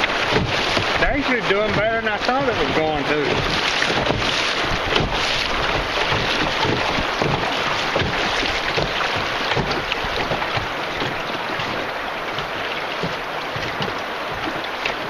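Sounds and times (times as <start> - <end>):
river water rushing and splashing: 0.0 - 15.0.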